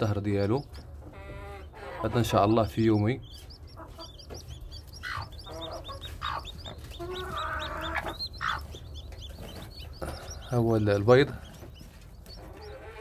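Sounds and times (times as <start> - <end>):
chicks peeping: 0.0 - 13.0
hen clucking: 0.0 - 13.0.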